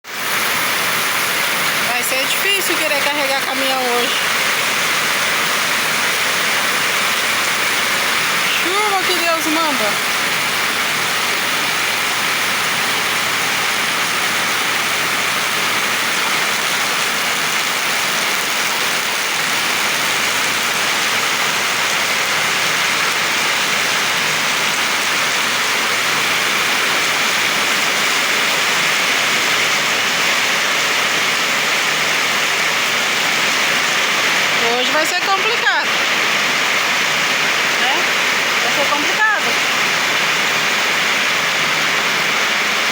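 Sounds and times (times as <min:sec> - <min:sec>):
heavy rain falling: 0:00.1 - 0:42.9.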